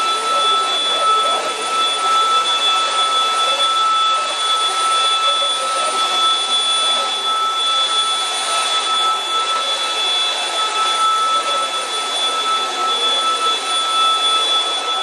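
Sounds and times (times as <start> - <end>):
vacuum cleaner air rush: 0.0 - 15.0
vacuum motor whine: 0.0 - 15.0.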